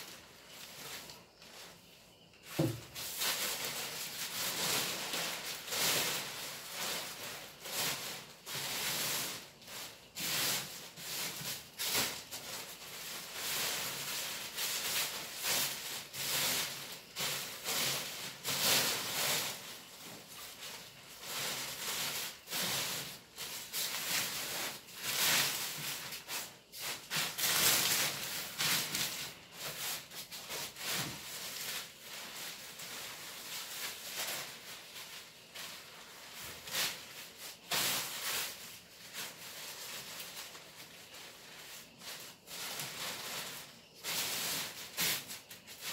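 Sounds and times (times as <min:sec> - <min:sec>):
fabric rustling: 0:00.0 - 0:45.9.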